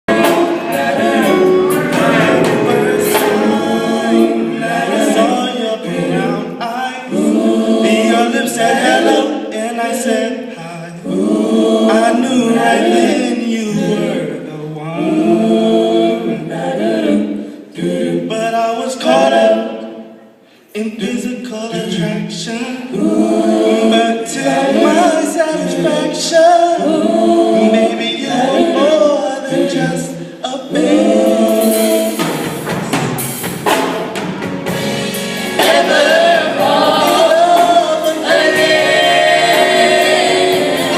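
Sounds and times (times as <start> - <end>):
a cappella group singing: 0.0 - 32.5, 35.1 - 40.9.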